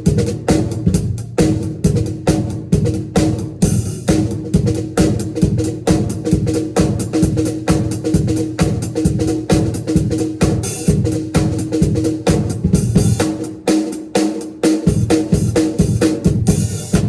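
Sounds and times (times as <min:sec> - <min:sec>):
drum kit steady beat: 0:00.0 - 0:17.0.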